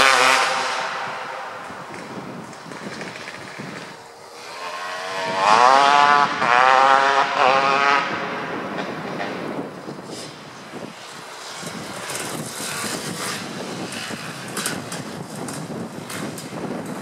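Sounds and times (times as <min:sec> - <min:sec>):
dirt bike riding past: 0:00.0 - 0:17.0.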